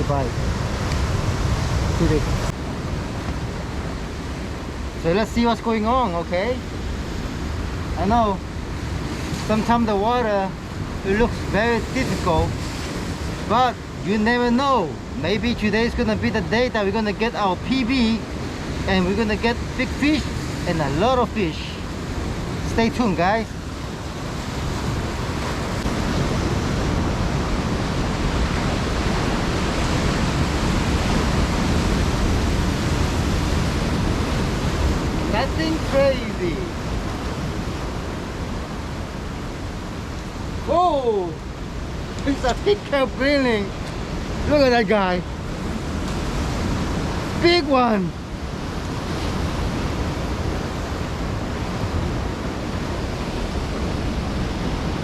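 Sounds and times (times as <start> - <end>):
heavy surf breaking: 0.0 - 55.0.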